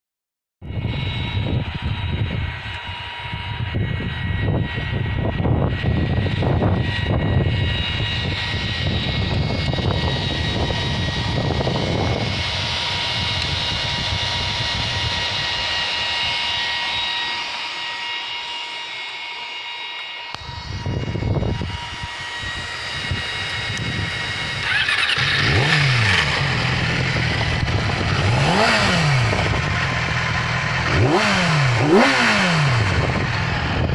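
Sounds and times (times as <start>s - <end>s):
motorcycle engine revving: 0.6s - 33.9s.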